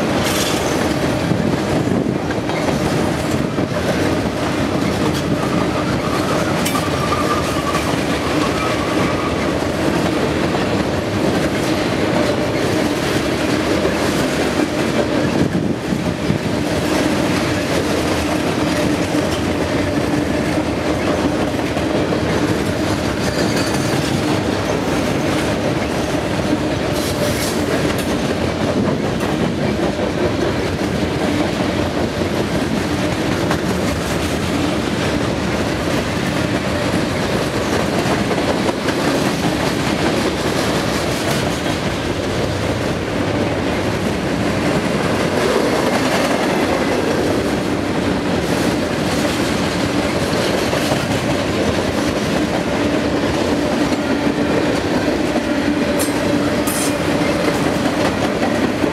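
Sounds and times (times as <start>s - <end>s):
train wheels clattering on rails: 0.0s - 58.9s.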